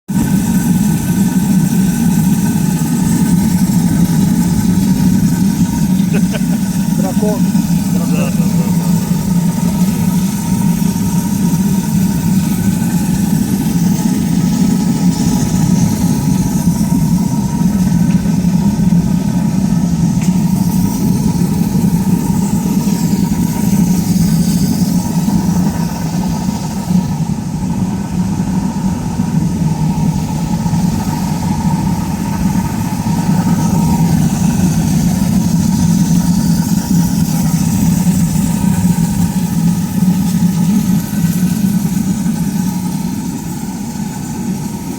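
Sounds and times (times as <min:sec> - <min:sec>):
furnace burner and blower hum: 0:00.1 - 0:44.9
burner hiss: 0:00.2 - 0:44.9.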